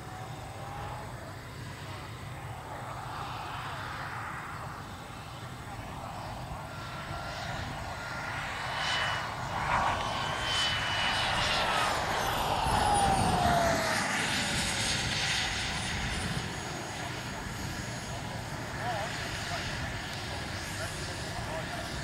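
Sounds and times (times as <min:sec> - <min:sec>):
model jet turbine whine: 0:00.0 - 0:22.0.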